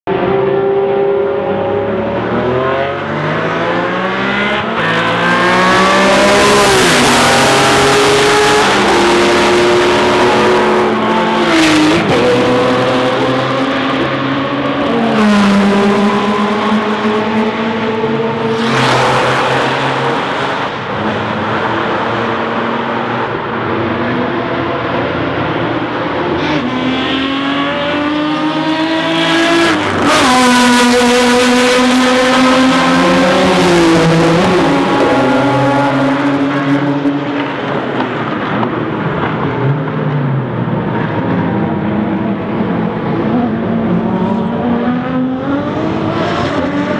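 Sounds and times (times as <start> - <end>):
race car engines revving past: 0.1 - 46.9.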